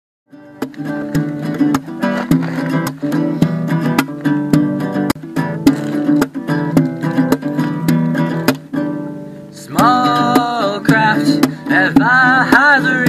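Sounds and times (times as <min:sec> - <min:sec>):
acoustic guitar strumming chords: 0:00.3 - 0:13.0.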